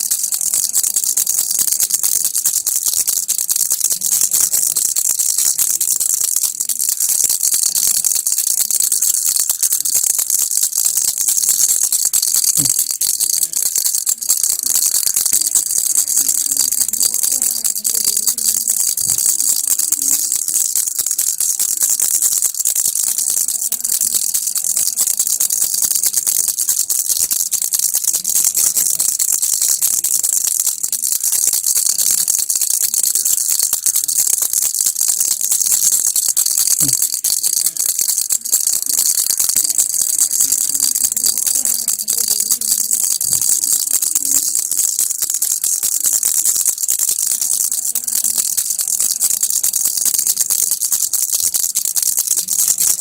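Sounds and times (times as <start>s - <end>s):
baby rattle shaking: 0.0s - 53.0s.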